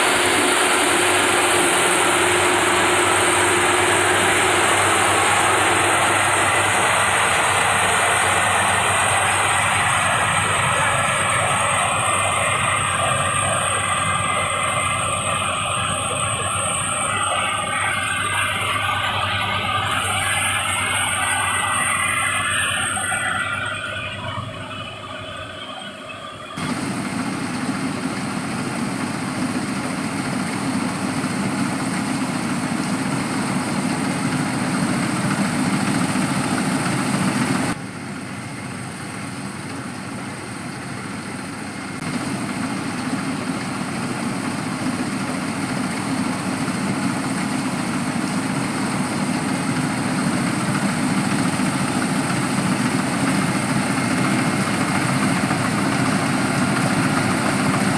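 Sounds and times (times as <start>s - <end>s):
harvesting machine engine running: 0.0s - 38.0s, 41.2s - 57.9s.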